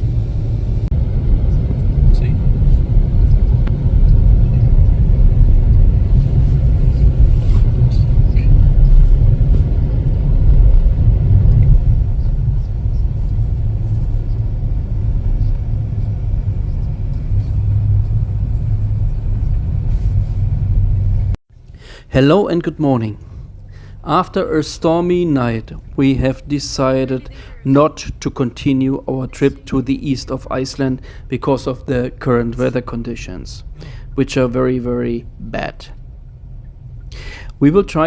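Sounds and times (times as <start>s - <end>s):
car cabin low rumble: 0.0s - 21.4s, 22.1s - 38.0s.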